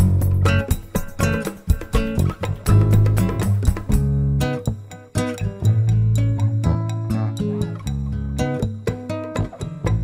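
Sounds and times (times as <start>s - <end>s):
plucked guitar over bass line: 0.0s - 10.0s.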